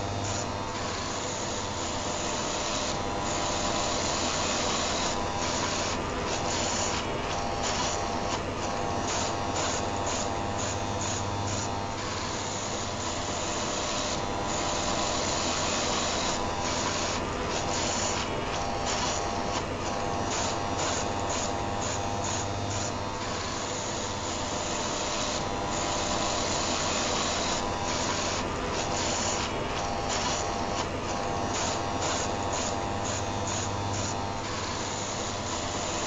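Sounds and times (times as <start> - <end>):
electric shaver running: 0.0 - 36.0.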